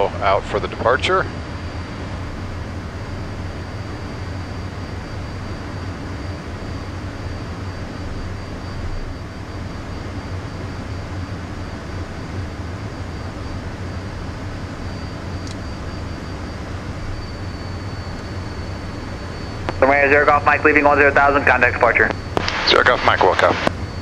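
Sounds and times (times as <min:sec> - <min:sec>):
high whine: 0:00.0 - 0:24.0.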